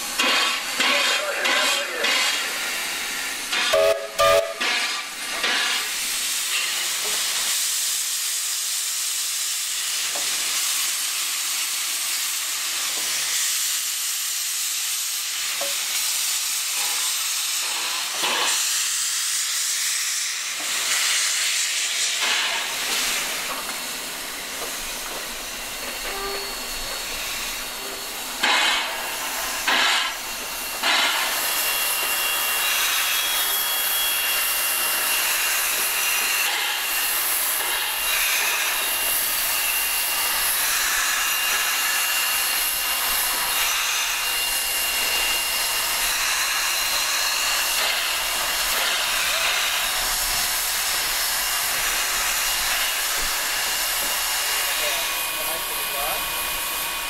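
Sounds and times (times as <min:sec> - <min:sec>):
short bursts of steam: 0:00.0 - 0:57.0
steam locomotive steam hissing: 0:00.0 - 0:57.0.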